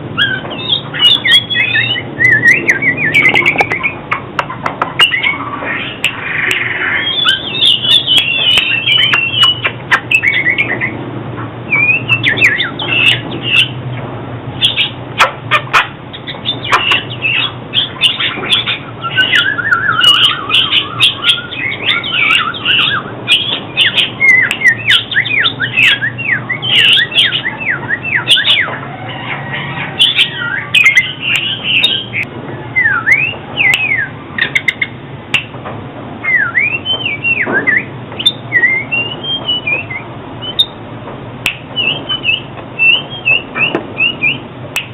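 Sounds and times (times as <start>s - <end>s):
magpie-robin singing: 0.0s - 11.0s, 11.6s - 35.5s, 36.2s - 40.8s, 41.4s - 44.9s.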